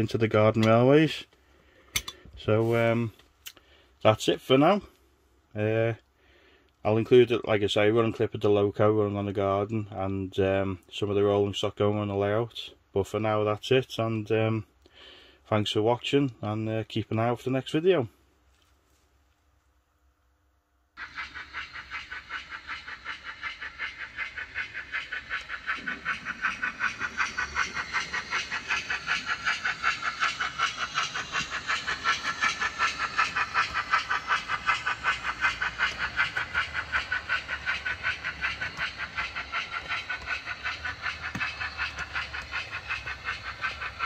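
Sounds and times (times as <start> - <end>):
model steam locomotive chuffing: 0.0 - 18.3, 21.0 - 44.0.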